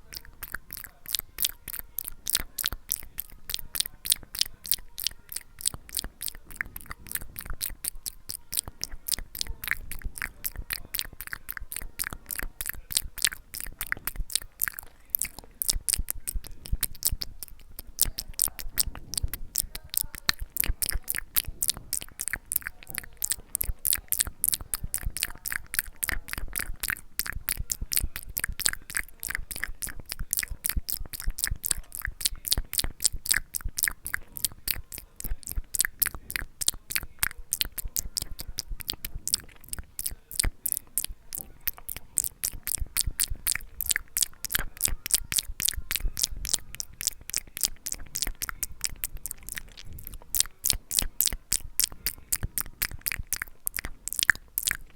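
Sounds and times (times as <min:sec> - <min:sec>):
wet mouth clicks and smacks: 0:00.0 - 0:54.9.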